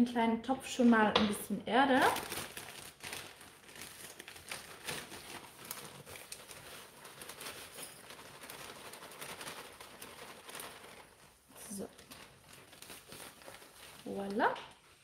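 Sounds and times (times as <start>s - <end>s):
plastic bag crinkling: 1.8s - 15.0s.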